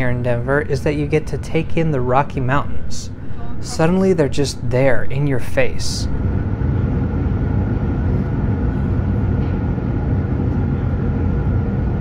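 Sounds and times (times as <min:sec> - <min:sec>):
faint steady whine: 0:00.0 - 0:12.0
train car rumble: 0:00.0 - 0:12.0.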